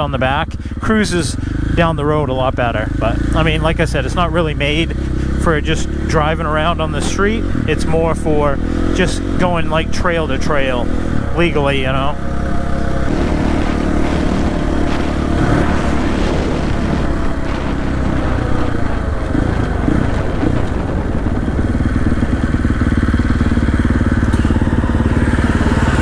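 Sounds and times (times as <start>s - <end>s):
motorcycle engine running: 0.0s - 26.0s
tire and road noise: 0.0s - 26.0s.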